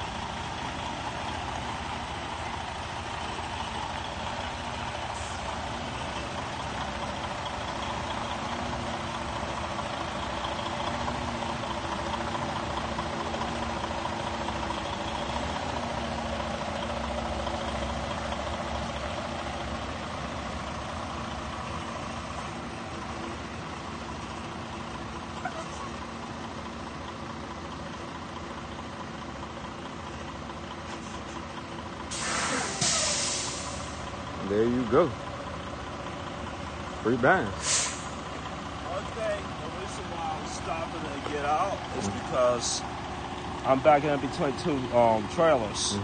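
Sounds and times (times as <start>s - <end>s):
truck diesel engine idling: 0.0s - 46.0s.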